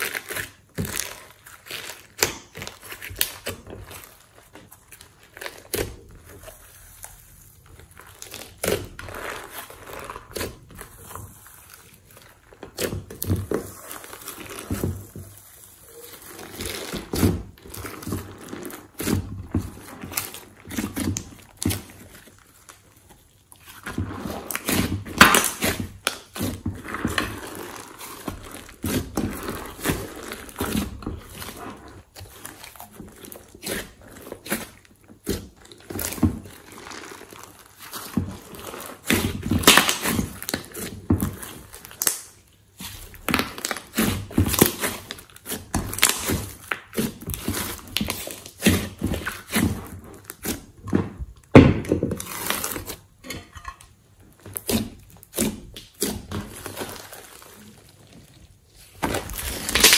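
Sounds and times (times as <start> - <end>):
slime squishing: 0.0 - 59.9.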